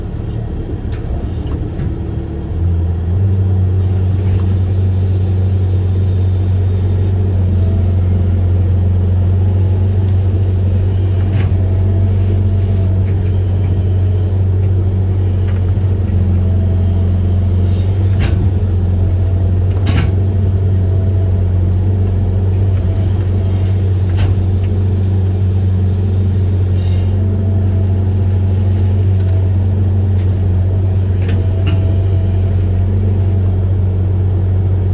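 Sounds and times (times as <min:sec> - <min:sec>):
diesel engine drone: 0:00.0 - 0:34.9.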